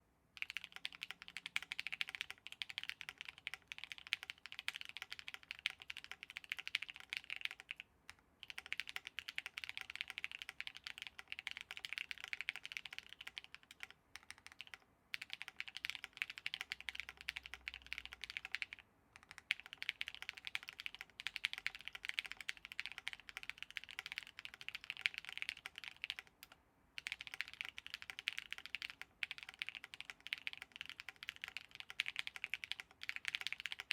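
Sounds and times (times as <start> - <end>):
fast typing on mechanical keyboard: 0.4 - 7.8, 8.4 - 33.9.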